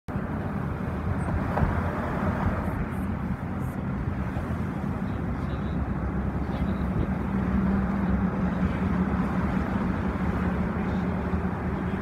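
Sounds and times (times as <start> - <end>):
low engine rumble: 0.1 - 12.0.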